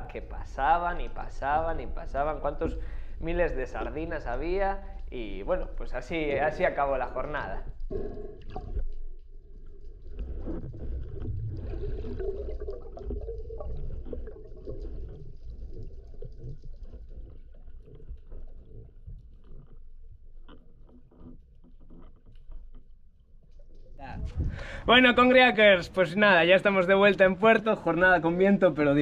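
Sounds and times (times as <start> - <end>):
underwater rumbling and gurgling: 0.0 - 25.0.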